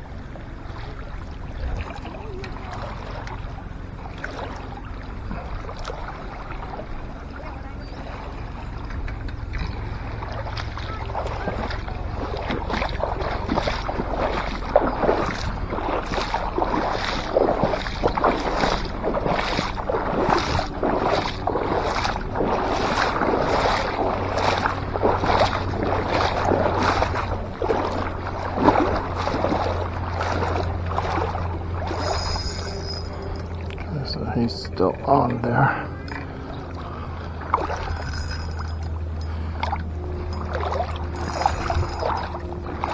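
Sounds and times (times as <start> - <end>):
waves splashing against rocks: 0.0 - 42.9
wind rumble on microphone: 0.0 - 42.9.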